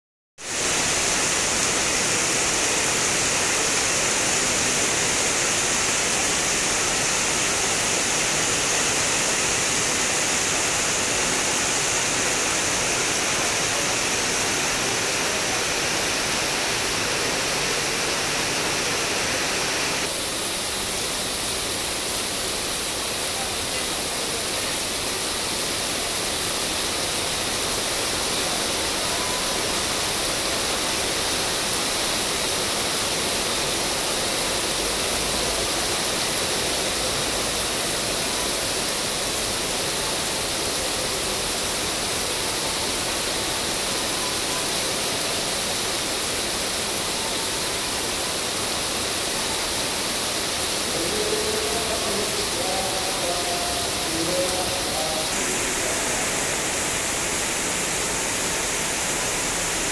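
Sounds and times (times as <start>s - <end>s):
heavy rain pouring: 0.4s - 59.9s.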